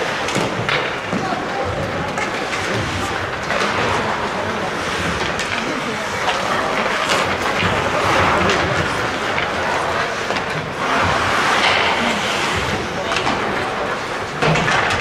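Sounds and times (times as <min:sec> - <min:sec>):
skates scraping on ice: 0:00.0 - 0:15.0
sticks and puck clacking: 0:00.0 - 0:15.0.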